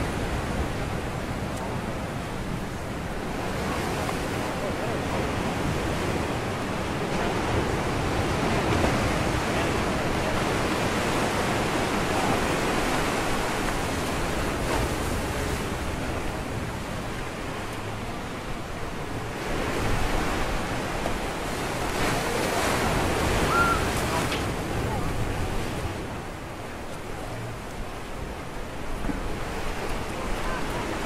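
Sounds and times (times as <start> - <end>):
waves breaking on rocks: 0.0 - 31.0.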